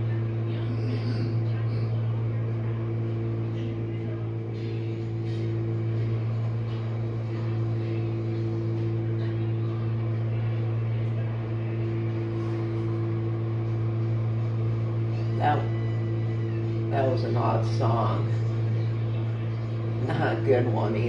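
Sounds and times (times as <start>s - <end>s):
dishwasher pump motor humming: 0.0s - 21.0s.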